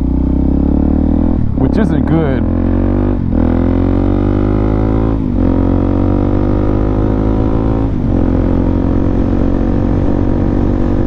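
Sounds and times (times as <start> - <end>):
motorcycle engine droning: 0.0 - 11.0.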